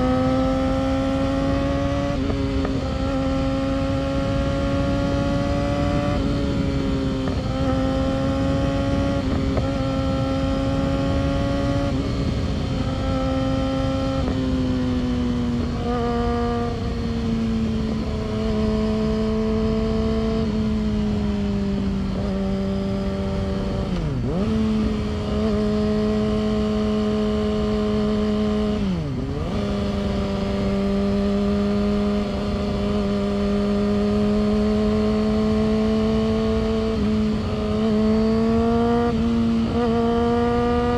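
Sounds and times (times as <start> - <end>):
motorcycle engine at high revs: 0.0 - 40.9.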